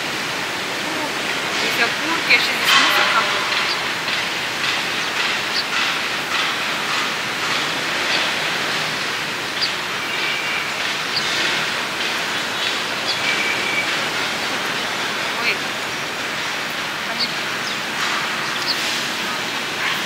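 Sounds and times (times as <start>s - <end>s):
rushing outdoor background noise: 0.0s - 20.0s.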